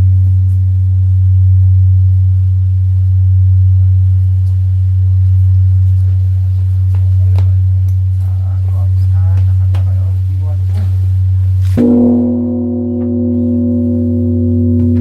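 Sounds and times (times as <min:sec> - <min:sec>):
large temple bell humming: 0:00.0 - 0:15.0.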